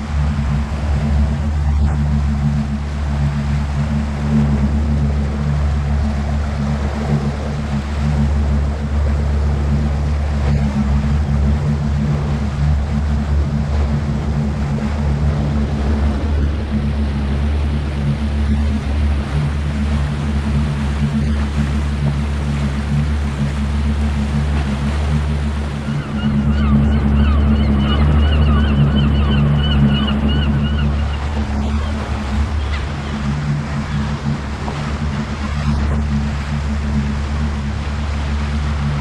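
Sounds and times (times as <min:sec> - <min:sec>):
motorboat engine running: 0:00.0 - 0:39.0
water splashing past hull: 0:00.0 - 0:39.0.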